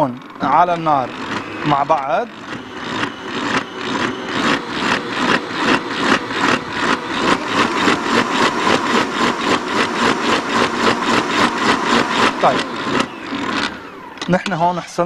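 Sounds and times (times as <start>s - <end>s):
stand mixer motor beating batter: 0.0s - 15.0s.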